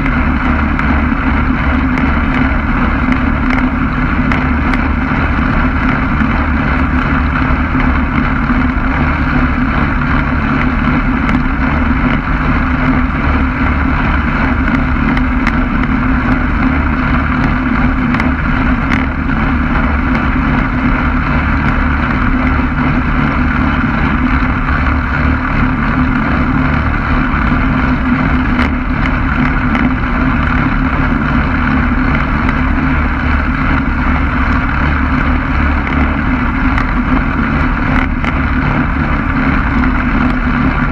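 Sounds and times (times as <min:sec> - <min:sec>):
ultralight engine and propeller: 0:00.0 - 0:40.9
wind buffeting microphone: 0:00.0 - 0:40.9.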